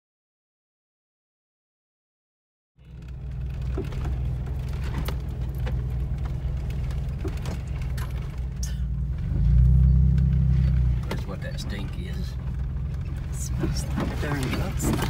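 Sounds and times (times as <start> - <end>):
engine running at low speed: 2.8 - 15.0
vehicle knocks and rattles: 2.8 - 15.0.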